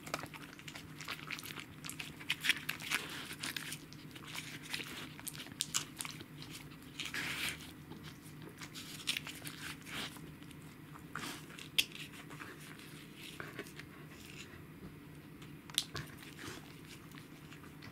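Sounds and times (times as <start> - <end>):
dog licking and chewing: 0.0 - 14.6, 15.7 - 17.9.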